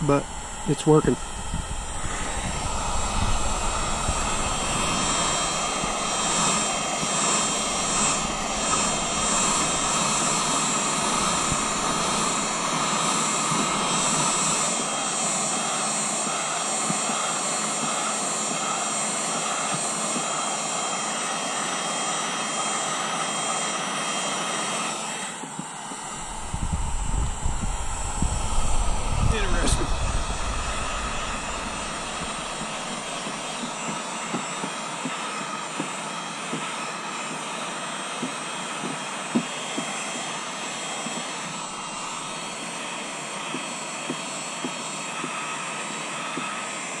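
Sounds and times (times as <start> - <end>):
heat gun blowing air: 0.0 - 47.0.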